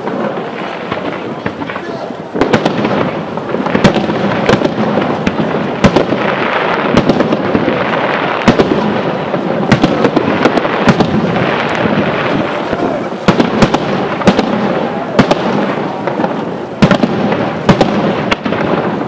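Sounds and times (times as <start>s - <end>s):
continuous rumbling noise: 0.0s - 19.0s
firework shells bursting: 0.0s - 19.0s.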